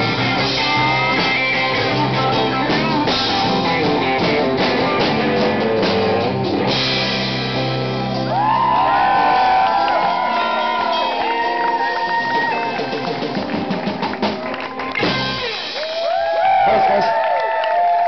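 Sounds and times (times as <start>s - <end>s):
bending high guitar notes: 0.0s - 15.8s
rock band playing loudly: 0.0s - 17.2s.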